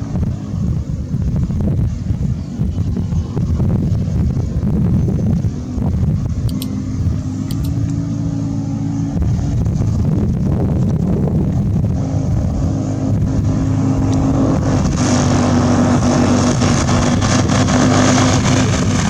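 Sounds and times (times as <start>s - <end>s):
ultralight aircraft engine running: 0.0s - 19.0s.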